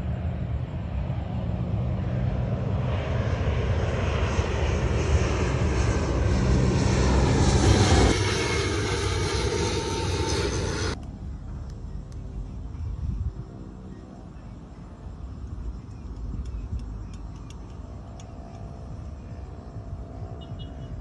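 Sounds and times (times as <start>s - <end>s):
airliner flying overhead: 0.0s - 21.0s.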